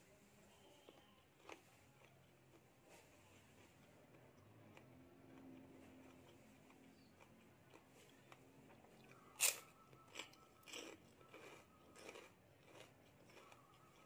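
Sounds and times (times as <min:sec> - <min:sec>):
crunchy chewing: 0:00.7 - 0:14.0.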